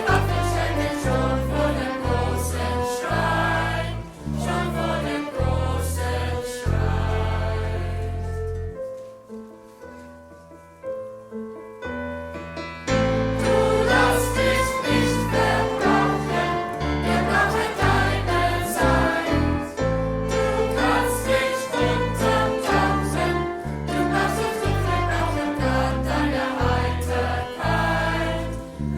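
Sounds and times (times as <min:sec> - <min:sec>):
choir singing with live band: 0:00.0 - 0:08.2, 0:13.4 - 0:28.8.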